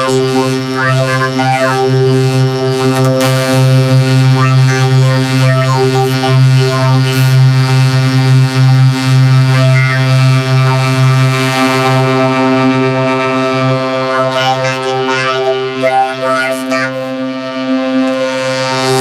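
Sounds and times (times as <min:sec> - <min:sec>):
loud buzzing drone: 0:00.0 - 0:19.0.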